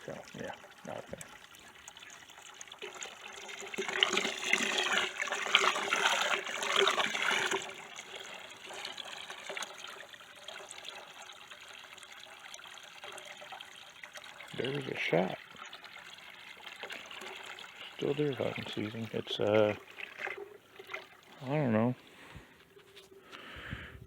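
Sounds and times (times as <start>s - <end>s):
water running from a hose: 0.0s - 22.0s.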